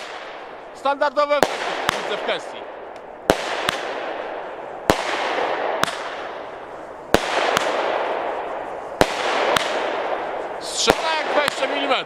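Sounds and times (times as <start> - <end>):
firework reports: 0.0 - 12.0.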